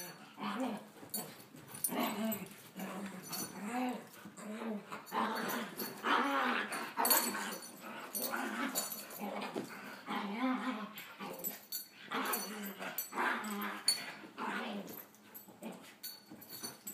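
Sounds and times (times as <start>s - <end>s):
dogs growling: 0.0s - 16.1s.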